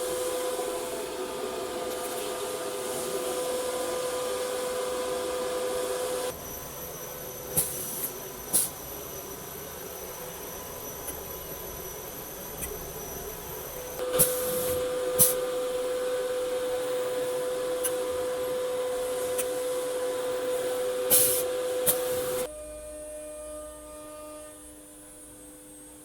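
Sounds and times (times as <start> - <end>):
spindle high whine and hiss: 0.0 - 26.0.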